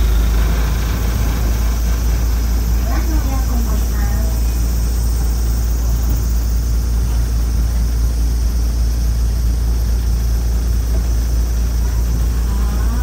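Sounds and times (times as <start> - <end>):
small train rumbling on track: 0.0 - 13.0.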